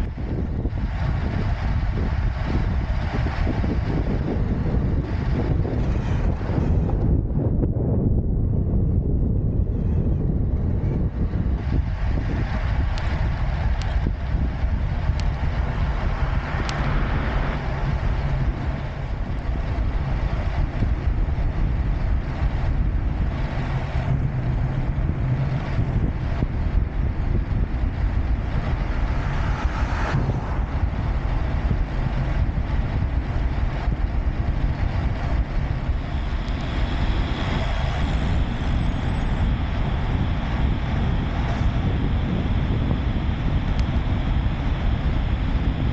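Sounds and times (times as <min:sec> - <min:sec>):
bicycle rolling noise: 0:00.0 - 0:45.9
wind rumble on microphone: 0:00.0 - 0:45.9.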